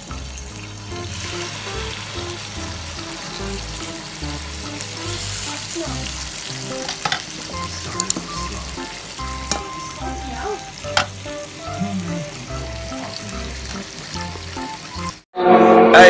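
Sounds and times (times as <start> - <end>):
fish sizzling on a grill pan: 0.0 - 15.2.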